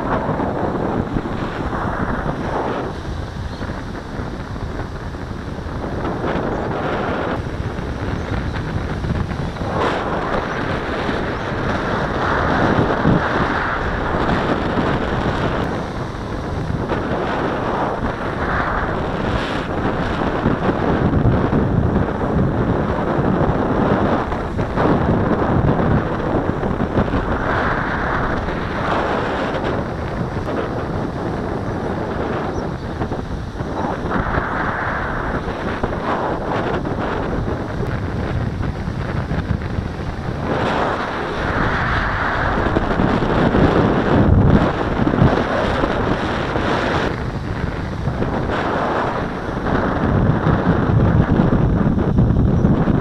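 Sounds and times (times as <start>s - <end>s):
surf washing in: 0.0s - 53.0s
wind buffeting microphone: 0.0s - 53.0s.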